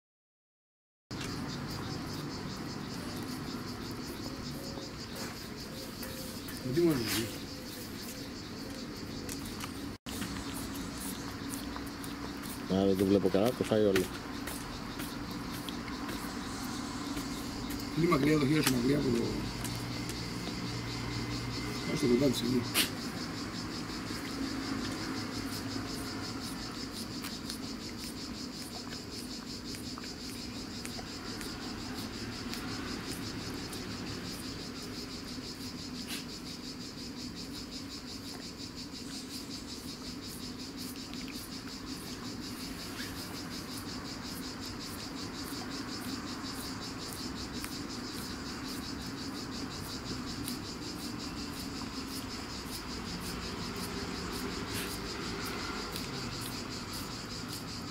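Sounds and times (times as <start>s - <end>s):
insects chirring: 1.1s - 57.9s.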